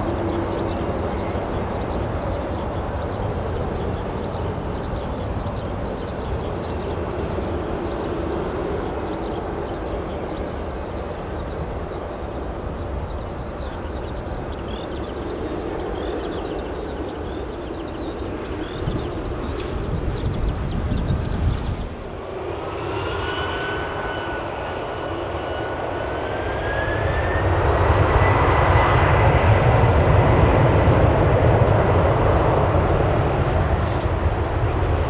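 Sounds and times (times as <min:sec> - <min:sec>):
distant jet engines rumbling: 0:00.0 - 0:35.0.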